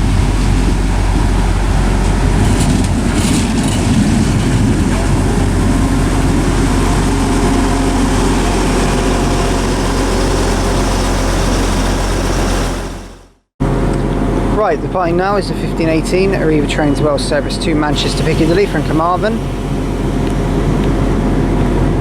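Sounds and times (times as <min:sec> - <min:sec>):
diesel train engine idling: 0:00.0 - 0:13.8, 0:17.9 - 0:22.0.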